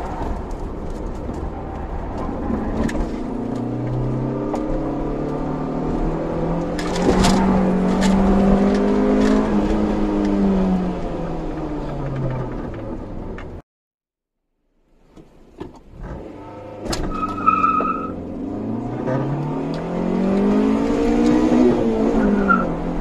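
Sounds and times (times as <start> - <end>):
car engine revving: 0.0 - 13.5, 16.0 - 23.0.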